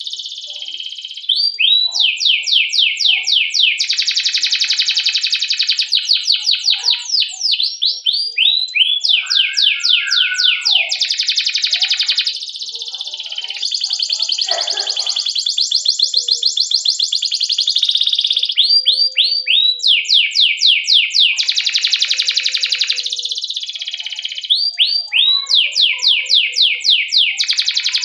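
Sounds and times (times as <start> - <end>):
canary singing with trills: 0.0 - 28.0.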